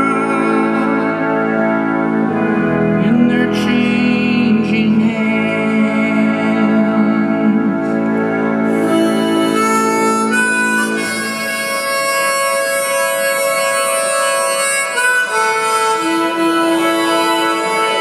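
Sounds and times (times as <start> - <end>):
harmonica melody: 0.0 - 18.0
organ chords: 0.0 - 18.0.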